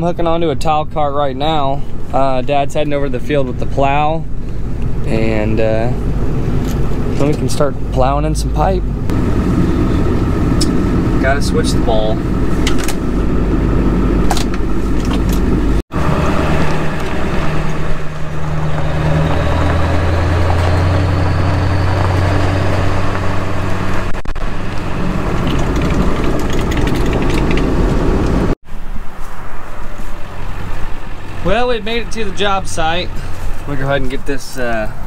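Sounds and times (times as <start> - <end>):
truck engine running: 0.0 - 28.6
road noise: 0.0 - 35.0.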